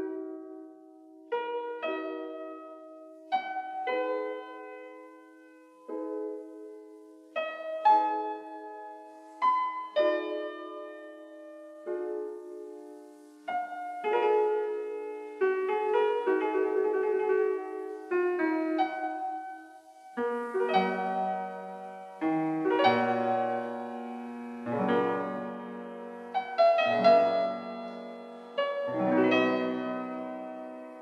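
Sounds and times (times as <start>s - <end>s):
slow solo piano chords: 0.0s - 31.0s.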